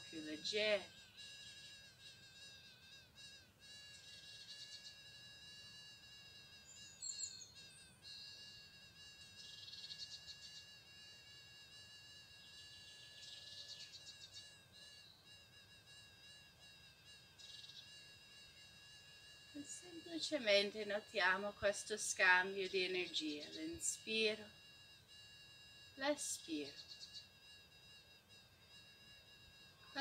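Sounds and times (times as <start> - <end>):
insect chorus buzzing: 0.0 - 30.0
rapid chirping trills: 0.0 - 30.0.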